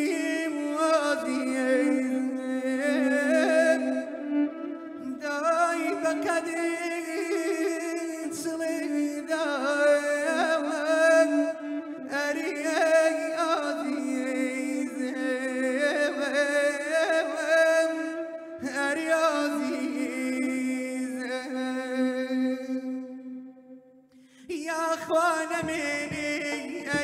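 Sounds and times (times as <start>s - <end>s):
man singing into a microphone: 0.0s - 23.2s, 24.5s - 27.0s.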